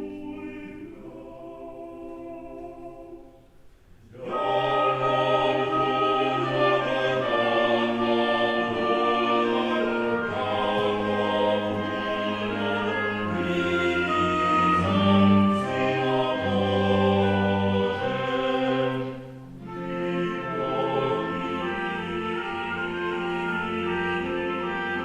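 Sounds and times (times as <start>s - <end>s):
choir singing sustained chords: 0.0s - 25.0s
instrumental accompaniment: 4.2s - 25.0s.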